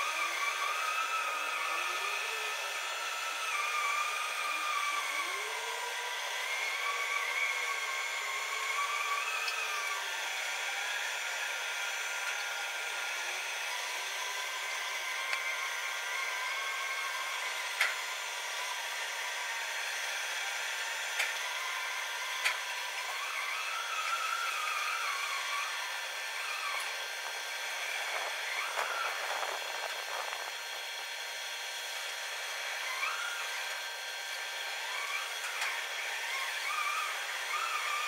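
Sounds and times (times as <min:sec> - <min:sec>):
machine whirring and whining: 0:00.0 - 0:38.0.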